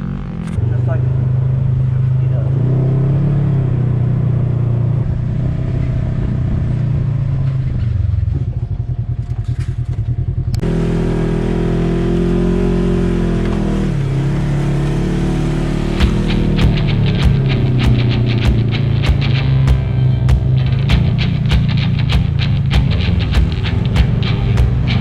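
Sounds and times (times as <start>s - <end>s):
off-road vehicle engine running: 0.0s - 25.0s.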